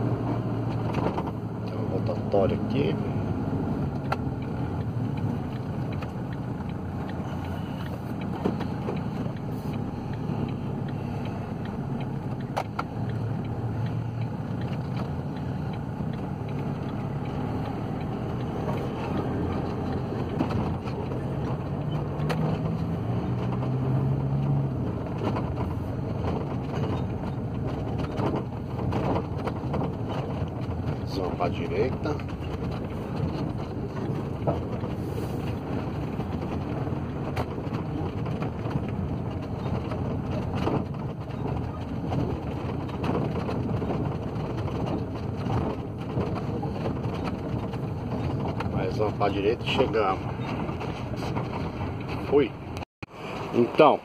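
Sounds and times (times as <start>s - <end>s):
diesel van engine: 0.0s - 54.0s
road noise: 0.0s - 54.0s.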